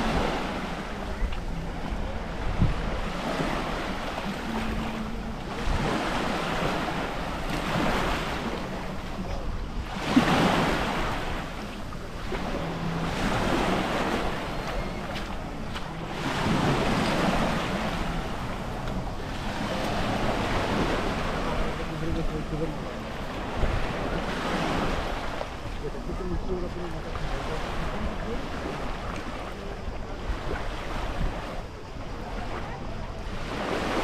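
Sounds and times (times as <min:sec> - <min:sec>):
sea waves washing onto shore: 0:00.0 - 0:34.0
wind buffeting microphone: 0:00.0 - 0:34.0.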